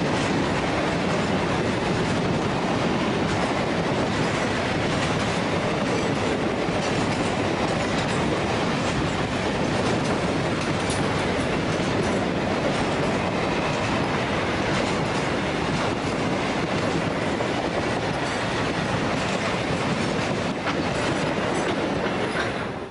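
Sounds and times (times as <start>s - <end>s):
train wheels rumbling on rails: 0.0s - 22.9s
wheels clacking on rails: 0.0s - 22.9s.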